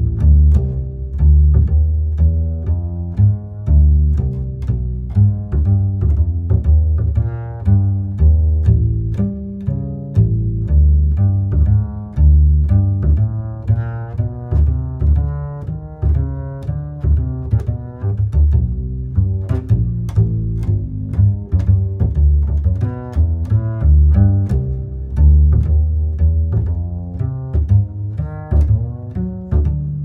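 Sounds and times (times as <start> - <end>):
plucked low strings music: 0.0 - 30.0.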